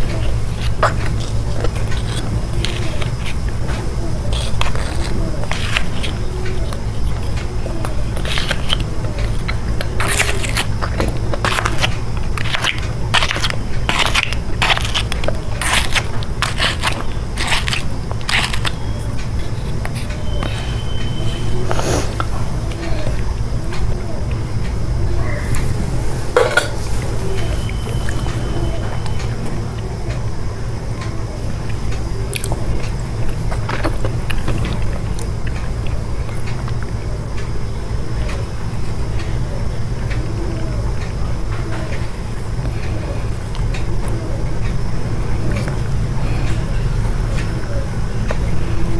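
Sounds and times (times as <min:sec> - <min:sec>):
chocolate crunching while chewed: 0:00.0 - 0:48.9
steady low hum: 0:00.0 - 0:48.9.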